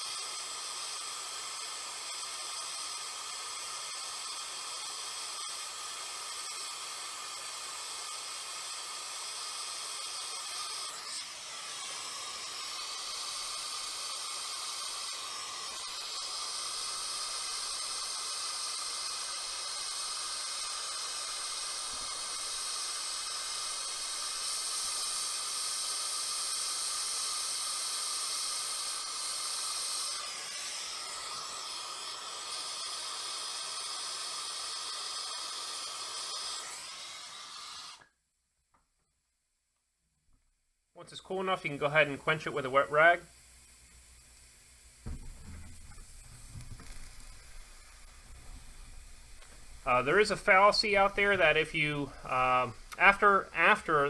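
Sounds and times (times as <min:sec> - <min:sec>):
torch flame hissing: 0:00.0 - 0:38.1, 0:41.0 - 0:54.0.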